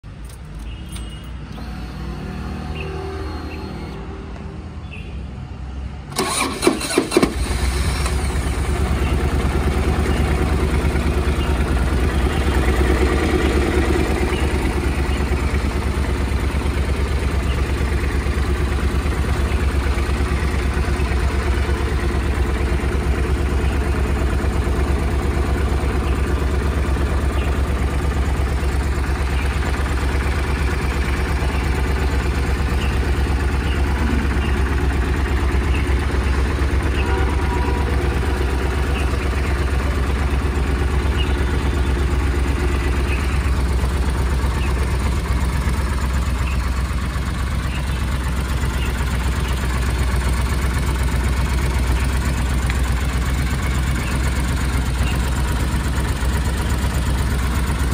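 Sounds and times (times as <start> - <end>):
motorcycle engine starting and idling: 0.0 - 5.0, 6.0 - 57.9.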